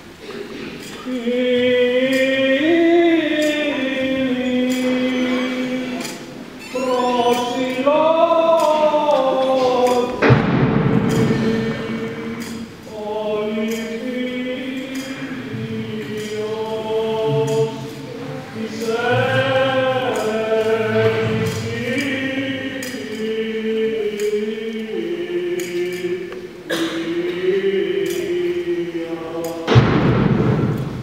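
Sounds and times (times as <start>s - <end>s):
voices chanting long notes: 0.9s - 31.0s.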